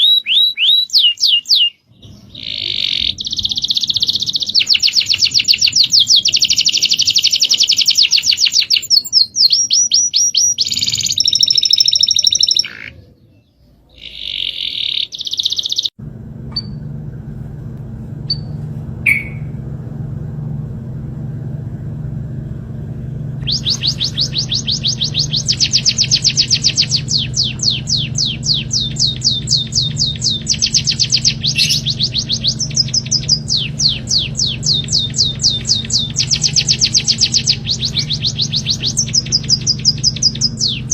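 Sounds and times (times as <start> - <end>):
songbird chirping: 0.0 - 16.8, 18.3 - 19.6, 23.4 - 40.9
steady low hum: 0.0 - 40.9.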